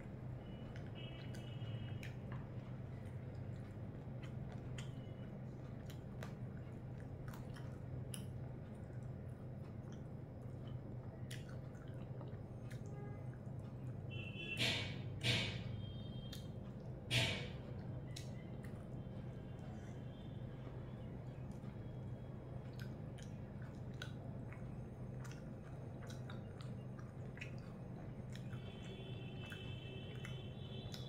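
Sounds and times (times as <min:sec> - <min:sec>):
wet chewing: 0:00.0 - 0:14.2, 0:16.2 - 0:20.2, 0:21.2 - 0:31.0
fingers squishing food: 0:00.0 - 0:14.6, 0:15.5 - 0:31.0
low steady hum: 0:00.0 - 0:31.0.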